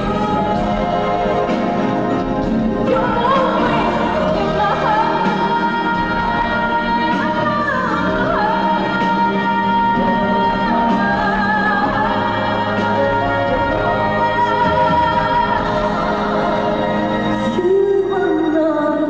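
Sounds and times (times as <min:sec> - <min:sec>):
amplified backing music: 0:00.0 - 0:19.0
woman singing into microphone: 0:00.0 - 0:19.0.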